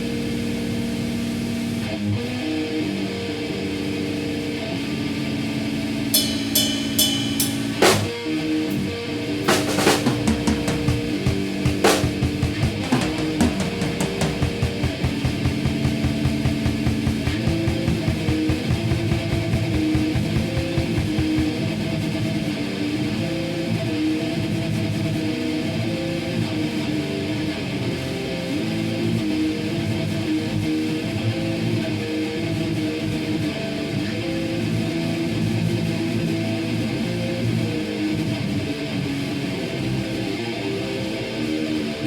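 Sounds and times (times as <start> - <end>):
strummed electric guitar song: 0.0 - 42.0.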